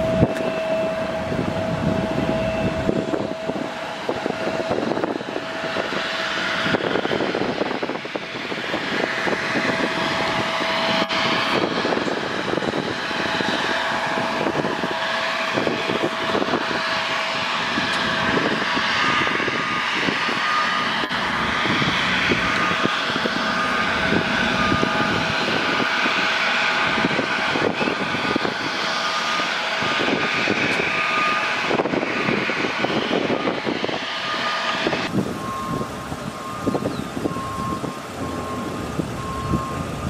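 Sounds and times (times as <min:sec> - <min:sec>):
jet engines idling: 0:00.0 - 0:40.0
reversing beeper: 0:00.0 - 0:40.0.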